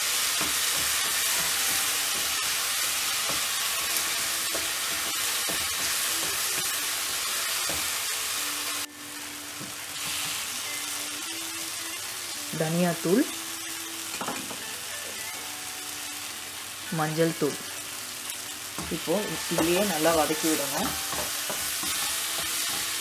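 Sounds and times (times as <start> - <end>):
masala sizzling in oil: 0.0 - 23.0.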